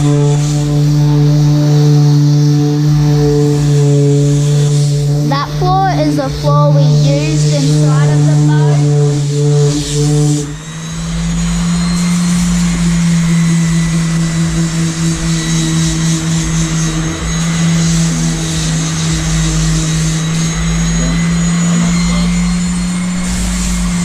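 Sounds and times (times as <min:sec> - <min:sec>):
electric power sander running: 0:00.0 - 0:24.0.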